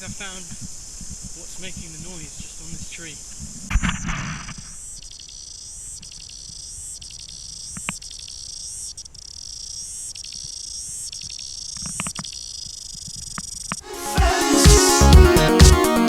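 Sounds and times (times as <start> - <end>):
cicadas singing: 0.0 - 16.0.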